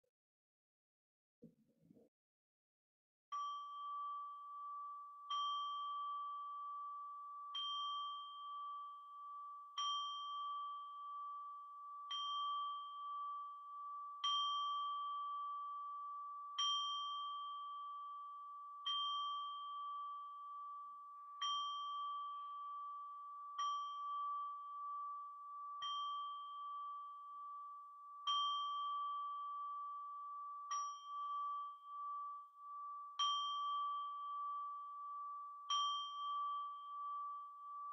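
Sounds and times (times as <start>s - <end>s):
bowl bell ringing: 3.3s - 37.9s.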